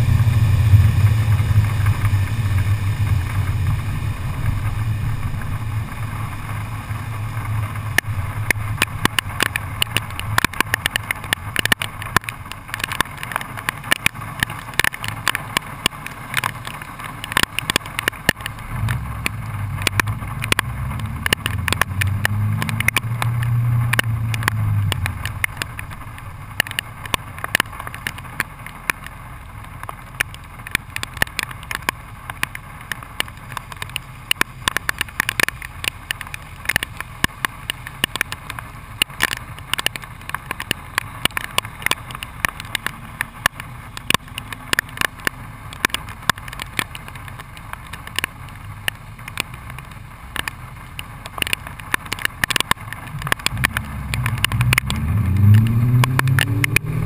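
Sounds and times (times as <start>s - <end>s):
car engine exhaust idling: 0.0s - 57.0s
exhaust crackle: 0.0s - 57.0s.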